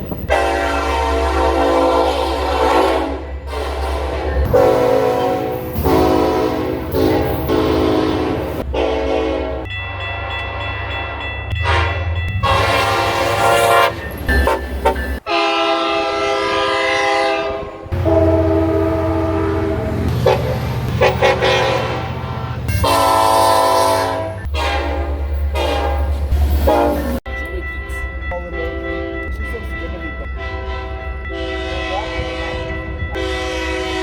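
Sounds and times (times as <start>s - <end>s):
train horn blasts: 0.2s - 27.2s, 30.4s - 34.0s.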